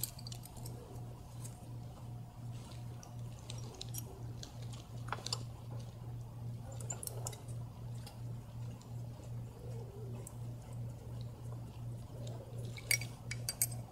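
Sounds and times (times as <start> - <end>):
low pulsing hum: 0.0 - 13.9.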